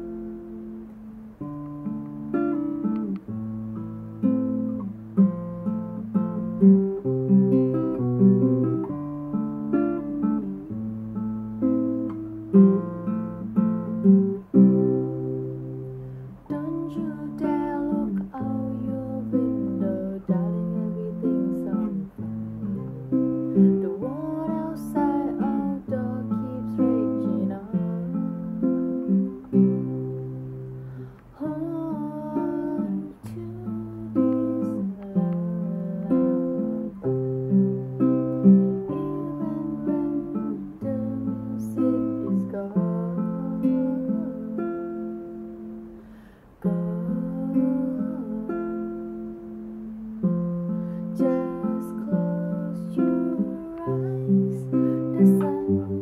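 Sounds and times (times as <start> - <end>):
classical guitar fingerstyle: 0.0 - 56.0.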